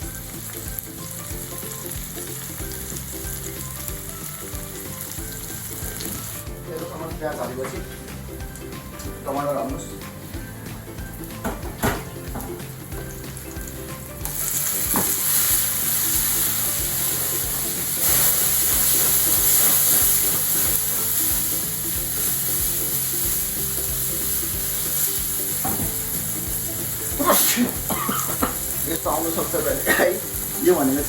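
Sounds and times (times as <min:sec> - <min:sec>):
tomatoes sizzling in hot oil: 0:00.0 - 0:31.0.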